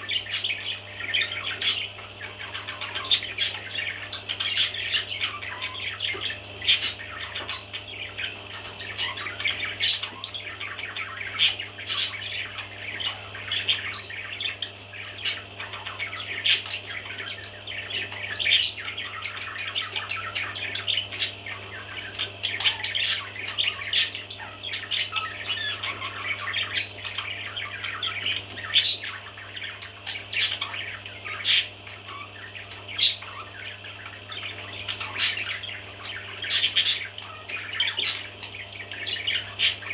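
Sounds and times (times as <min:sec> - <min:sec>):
baby parrots chirping and squawking: 0:00.1 - 0:39.9.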